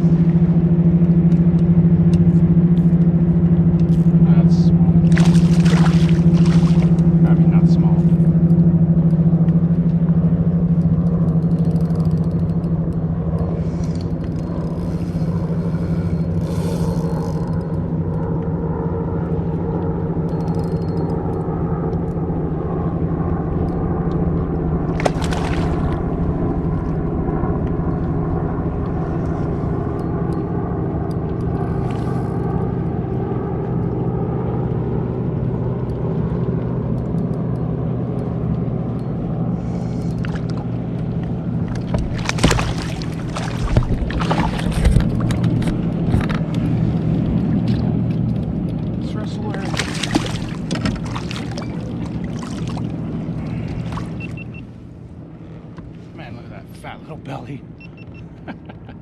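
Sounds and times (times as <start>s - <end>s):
motorboat engine drone: 0.0s - 59.0s.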